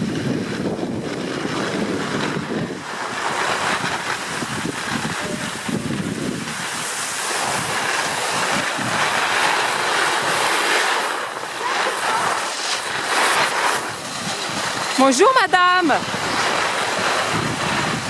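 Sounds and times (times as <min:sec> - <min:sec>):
skis scraping over packed snow: 0:00.0 - 0:18.0
wind rushing over microphone: 0:00.0 - 0:18.0.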